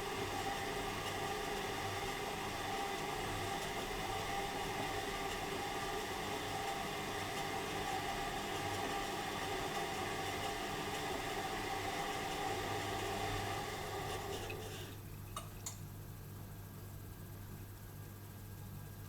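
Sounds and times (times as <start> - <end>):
washing machine running: 0.0 - 15.7.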